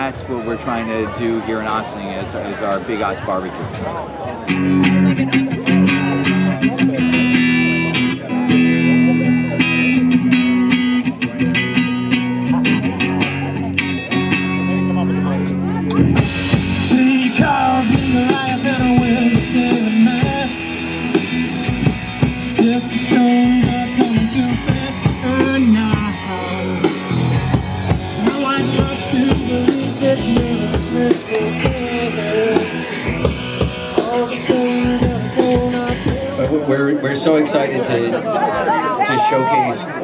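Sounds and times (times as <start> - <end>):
rock band playing: 3.6 - 36.8
electric guitar: 4.4 - 36.7
drum kit beat: 4.5 - 36.7.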